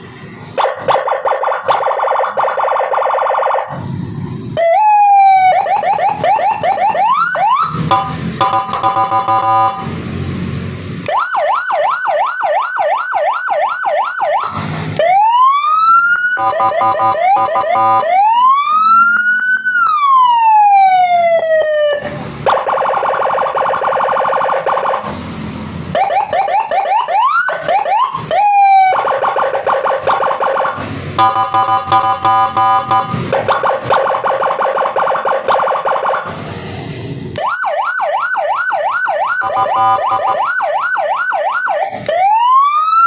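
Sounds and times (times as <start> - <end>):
electronic siren cycling tones: 0.6 - 10.0, 11.1 - 25.3, 25.9 - 36.3, 37.4 - 43.0.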